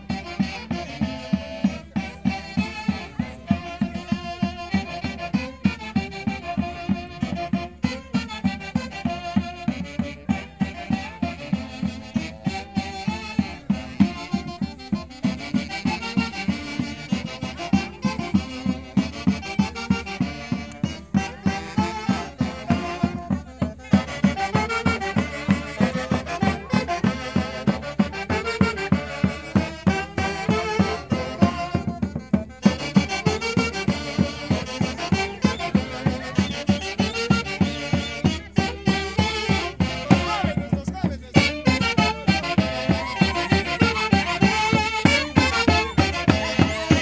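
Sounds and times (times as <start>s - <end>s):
brass band playing dance tune: 0.0s - 47.0s.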